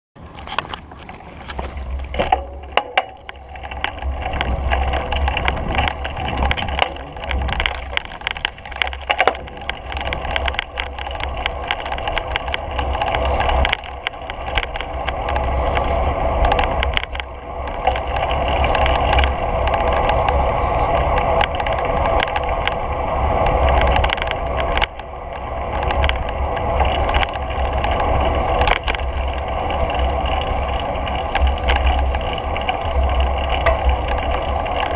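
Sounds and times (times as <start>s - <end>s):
bicycle tyres rolling on asphalt: 0.2s - 34.9s
bike clicks and rattles: 0.2s - 34.9s
wind rumble on microphone: 0.2s - 34.9s.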